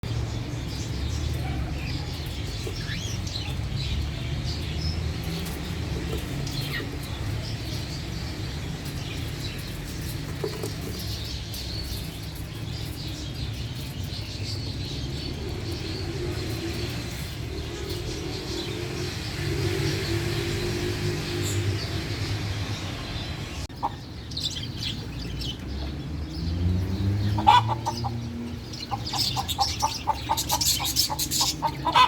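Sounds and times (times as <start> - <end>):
parrots chirping and calling: 0.2 - 25.7, 26.4 - 32.0.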